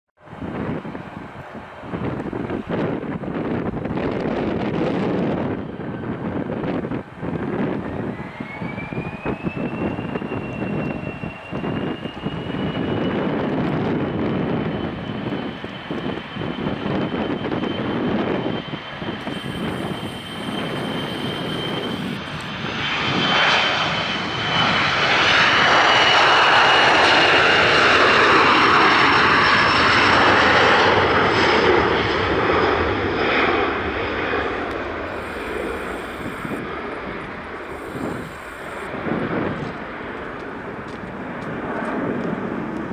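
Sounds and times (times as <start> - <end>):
jet engines whining and rushing: 0.2 - 42.9.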